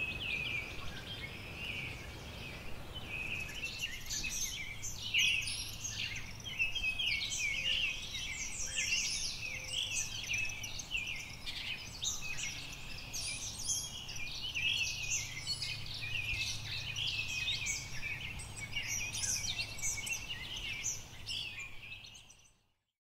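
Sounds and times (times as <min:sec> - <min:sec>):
low steady outdoor hum: 0:00.0 - 0:22.5
songbirds chirping: 0:00.0 - 0:22.9.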